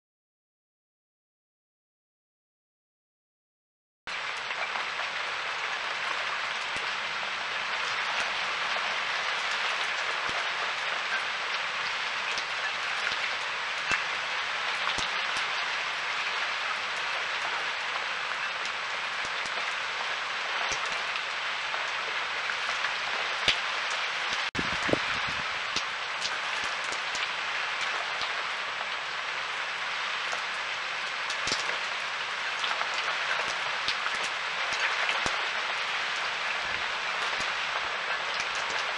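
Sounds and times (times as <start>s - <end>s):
heavy rain falling: 4.1s - 38.9s.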